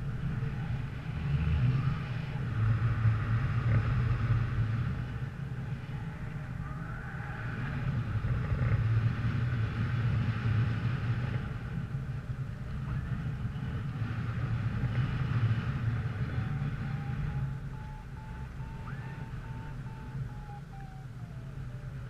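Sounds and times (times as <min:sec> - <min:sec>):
vehicle engine droning: 0:00.0 - 0:22.0
wind noise on microphone: 0:00.0 - 0:22.0.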